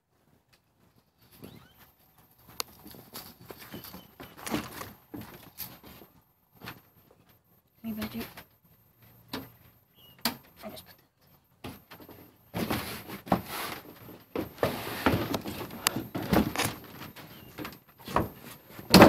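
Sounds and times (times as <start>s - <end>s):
rustling and handling noise: 0.0s - 19.0s.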